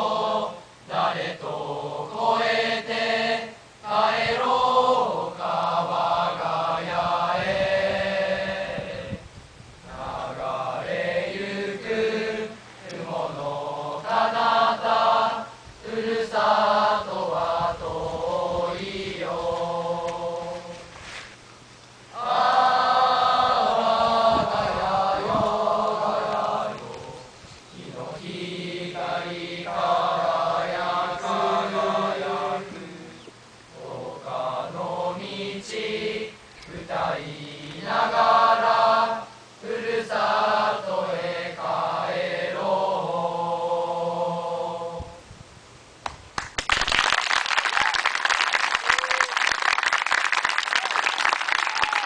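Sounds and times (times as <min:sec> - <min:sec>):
boys choir singing a cappella: 0:00.0 - 0:09.2, 0:09.8 - 0:21.0, 0:22.1 - 0:45.3.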